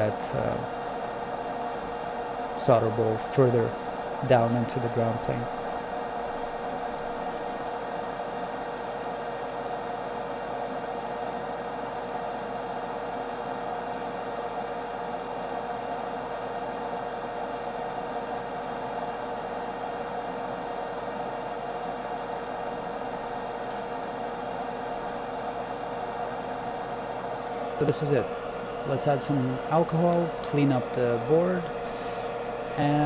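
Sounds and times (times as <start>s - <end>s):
steady machine hum with tone: 0.0s - 33.0s.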